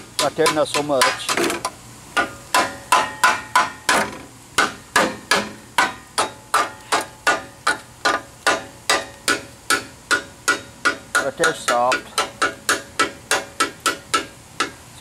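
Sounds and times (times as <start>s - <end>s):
hammer striking steel frame: 0.2s - 1.6s, 2.2s - 14.8s.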